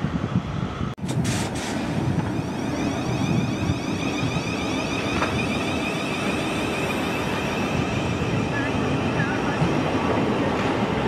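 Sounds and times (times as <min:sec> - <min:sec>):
train rumbling with high whine: 0:00.0 - 0:11.0.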